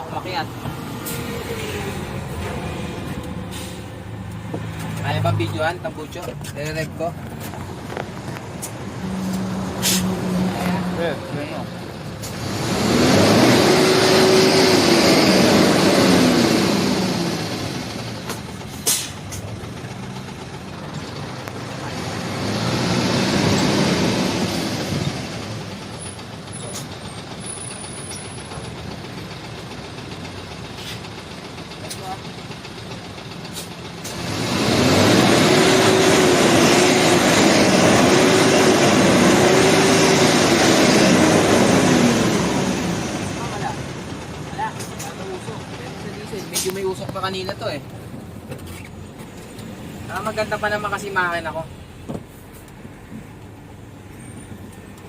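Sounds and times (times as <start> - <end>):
diesel truck engine revving: 0.0 - 52.0.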